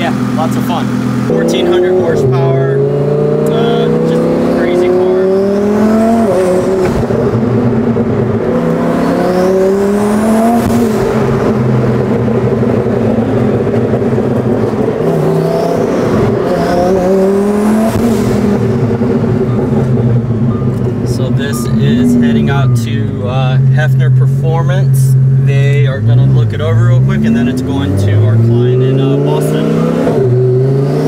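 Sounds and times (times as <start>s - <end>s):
car engine accelerating through gears: 0.0s - 31.0s.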